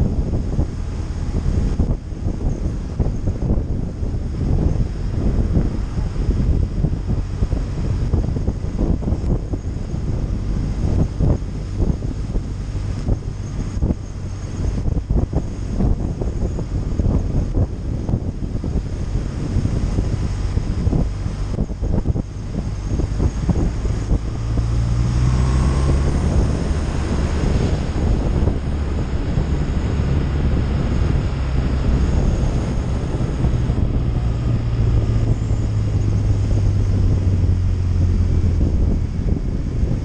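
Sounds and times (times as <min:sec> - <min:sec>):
motorcycle engine running: 0:00.0 - 0:40.0
wind buffeting microphone: 0:00.0 - 0:40.0.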